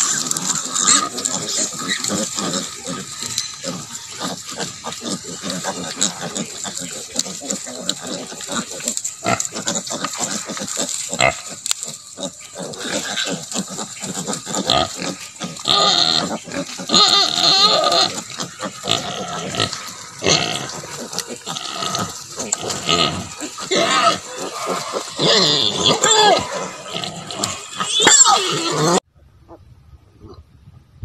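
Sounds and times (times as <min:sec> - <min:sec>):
piglets squealing: 0:00.0 - 0:29.0
pigs grunting: 0:00.0 - 0:29.0.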